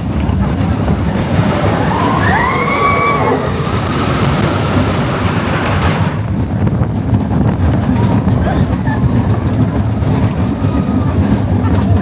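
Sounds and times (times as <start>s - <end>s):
roller coaster rumbling on track: 0.0s - 12.0s
wind on microphone: 0.0s - 12.0s.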